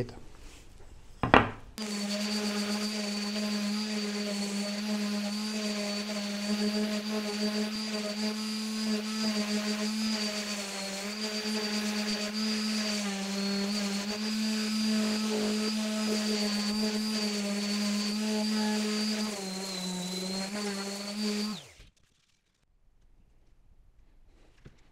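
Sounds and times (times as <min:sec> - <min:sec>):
power tool motor humming: 0:01.8 - 0:21.9.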